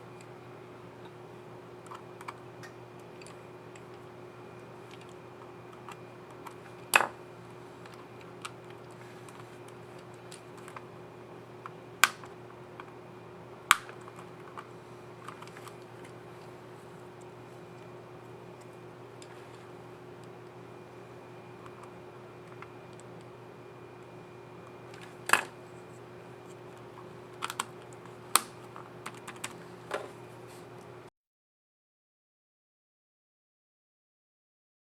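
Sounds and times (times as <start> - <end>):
steady low hum: 0.0 - 31.1.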